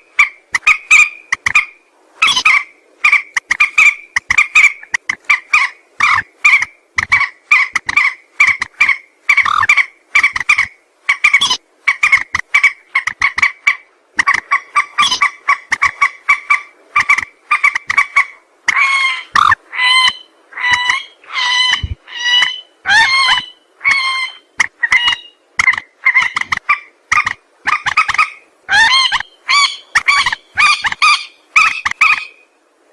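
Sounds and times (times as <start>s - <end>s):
rail bird clucking call: 0.0s - 32.4s.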